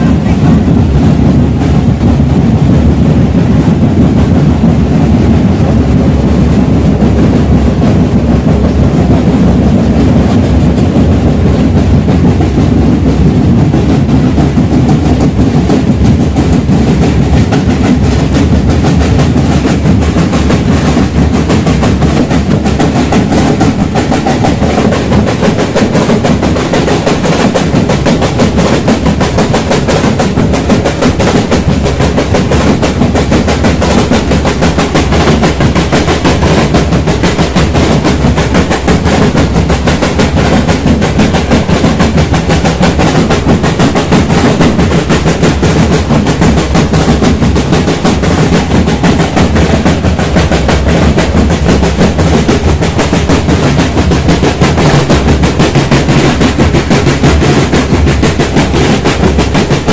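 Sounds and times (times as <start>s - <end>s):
marching snare drums: 0.0s - 59.9s.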